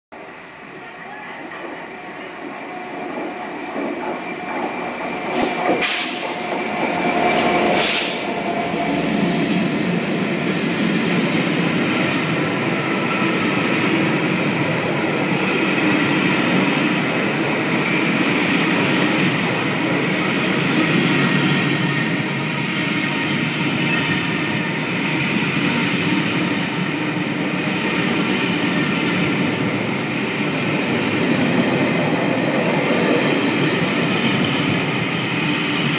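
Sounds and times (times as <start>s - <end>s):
diesel locomotive passing: 0.2s - 35.9s
train coaches rolling on rails: 0.2s - 35.9s.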